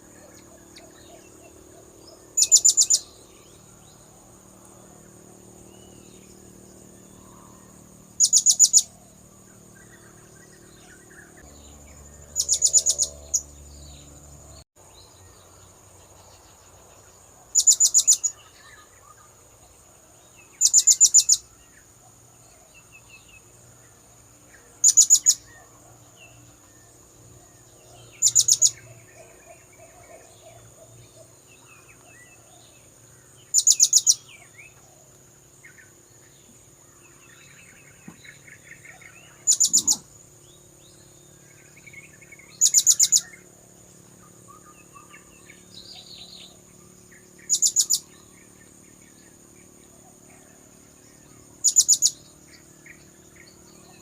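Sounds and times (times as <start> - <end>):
faint bird chirps: 0.0 - 54.0.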